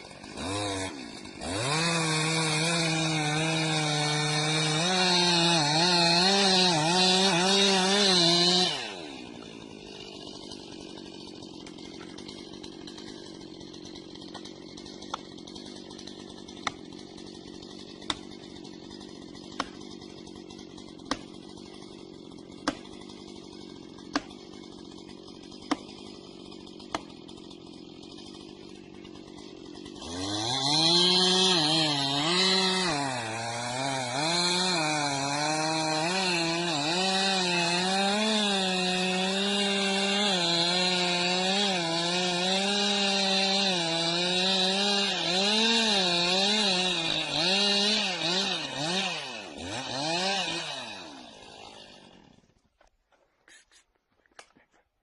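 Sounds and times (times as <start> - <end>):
chainsaw revving and idling: 0.0 - 54.8.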